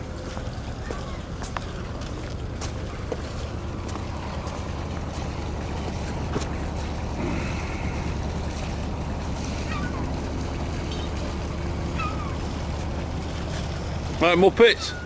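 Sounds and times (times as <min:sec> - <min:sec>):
boat diesel engine idling: 0:00.0 - 0:15.0.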